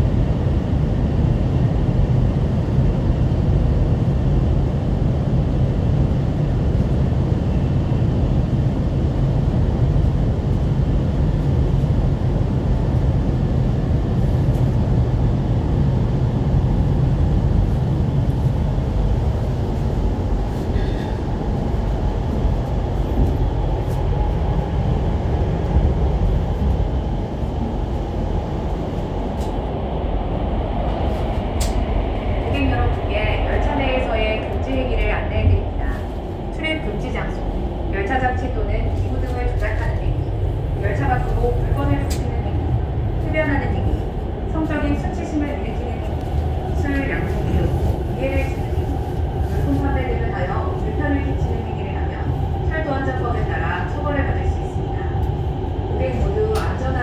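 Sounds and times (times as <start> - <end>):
train rumble inside passenger car: 0.0 - 57.0.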